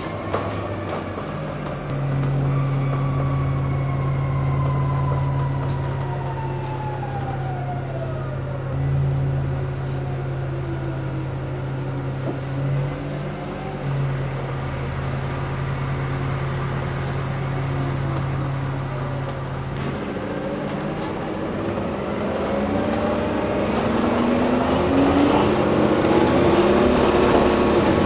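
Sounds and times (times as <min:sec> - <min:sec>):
bus drivetrain hum: 0:00.0 - 0:28.0.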